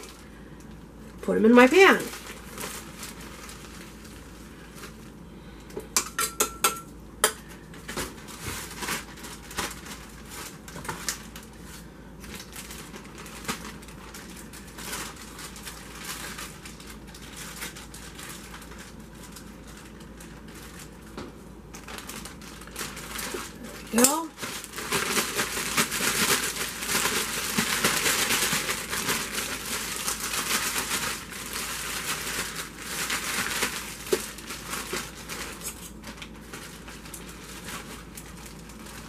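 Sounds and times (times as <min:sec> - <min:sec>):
plastic bag rustling: 0:00.0 - 0:05.7, 0:07.4 - 0:39.0.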